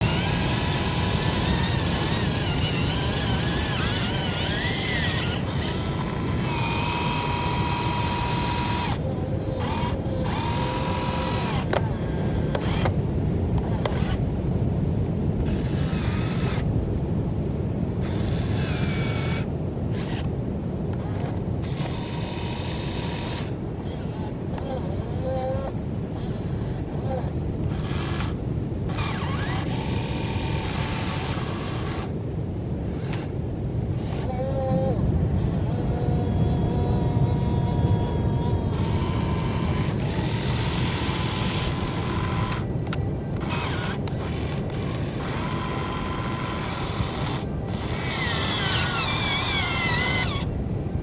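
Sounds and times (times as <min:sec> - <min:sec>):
thin whining tones: 0:00.0 - 0:13.0, 0:18.0 - 0:20.3, 0:20.9 - 0:32.2, 0:32.9 - 0:51.0.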